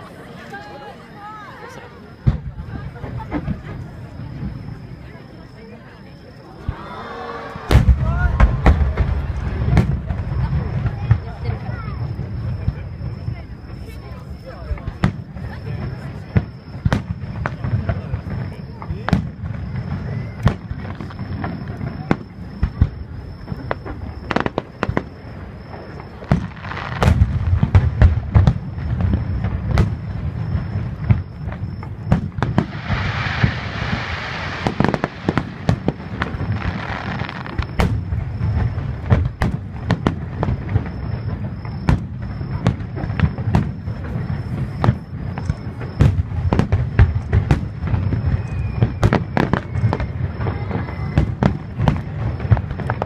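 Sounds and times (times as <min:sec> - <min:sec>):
continuous low rumble: 0:00.0 - 0:53.0
hissing crackle: 0:06.6 - 0:53.0.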